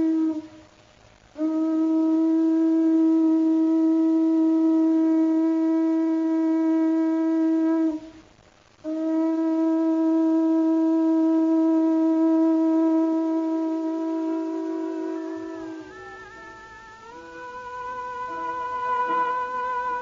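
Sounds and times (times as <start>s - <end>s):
conch shell blowing: 0.0s - 0.6s, 1.4s - 8.2s, 8.8s - 20.0s.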